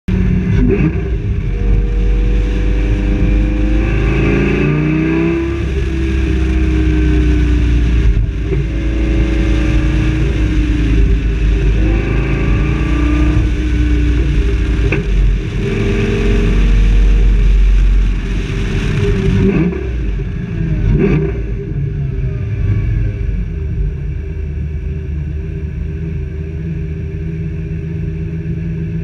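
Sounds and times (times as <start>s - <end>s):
car engine accelerating: 0.1s - 29.0s.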